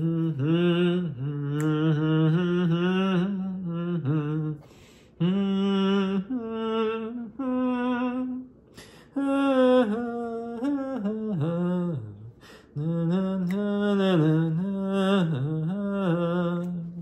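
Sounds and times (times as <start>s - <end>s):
person humming: 0.0s - 17.0s.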